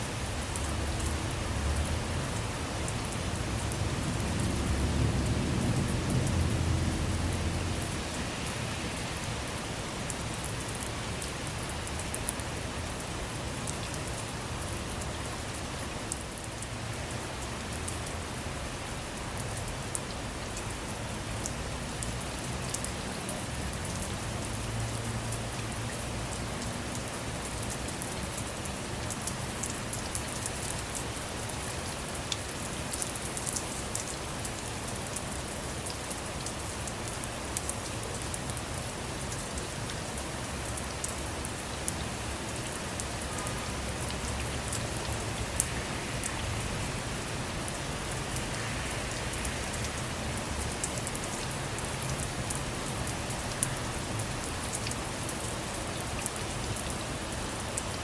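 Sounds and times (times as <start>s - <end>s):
rain drops ticking on a car: 0.0s - 58.0s.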